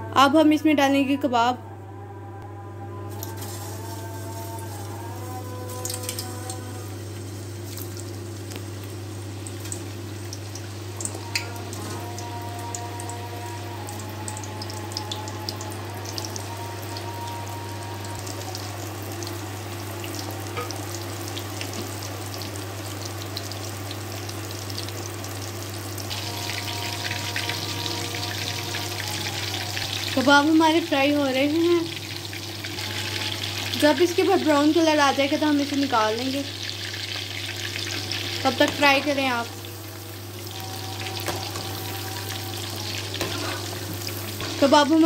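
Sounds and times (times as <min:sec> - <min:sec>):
food deep-frying in oil: 0:03.2 - 0:45.0.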